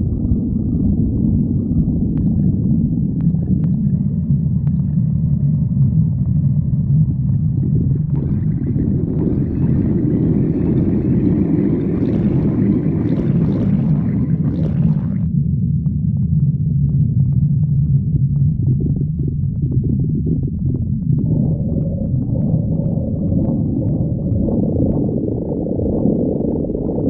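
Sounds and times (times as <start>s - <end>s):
stomach growling: 0.0s - 27.0s.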